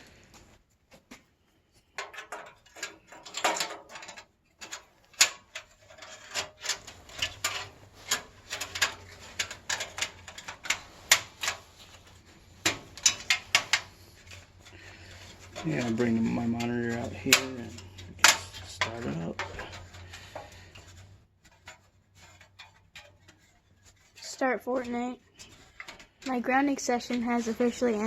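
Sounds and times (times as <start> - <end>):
hands handling computer hardware: 0.3 - 28.0
rubbing: 4.6 - 28.0.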